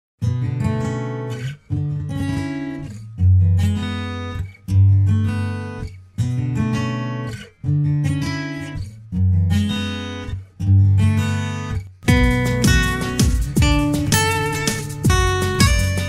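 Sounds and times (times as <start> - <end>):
acoustic guitar strumming chords: 0.2 - 16.0.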